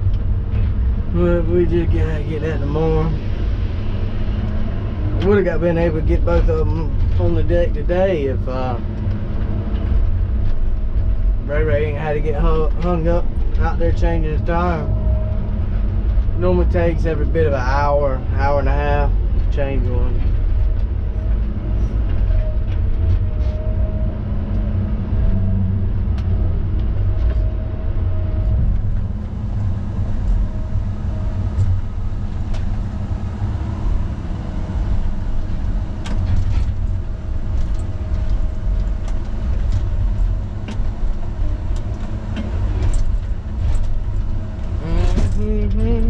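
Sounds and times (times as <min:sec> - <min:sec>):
diesel engine rumbling: 0:00.0 - 0:46.0
faint steady whine: 0:00.0 - 0:46.0.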